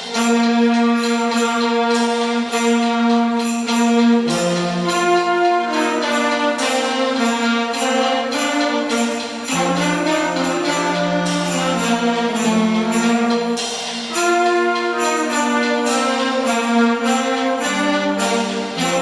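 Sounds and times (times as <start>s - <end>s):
school band playing: 0.0s - 19.0s
sleigh bells ringing: 0.0s - 19.0s.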